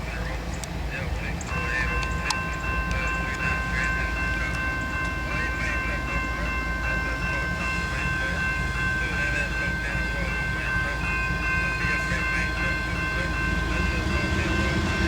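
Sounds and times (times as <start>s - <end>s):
locomotive engine rumble: 0.0s - 15.0s
locomotive air horn chord: 1.5s - 15.0s.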